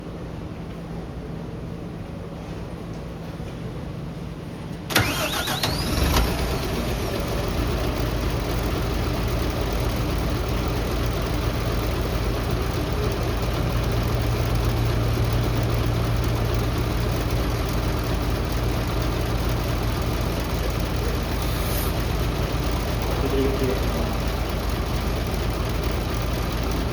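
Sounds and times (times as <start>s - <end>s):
bus engine idling: 0.0s - 26.9s
starter motor whirr: 4.9s - 26.9s.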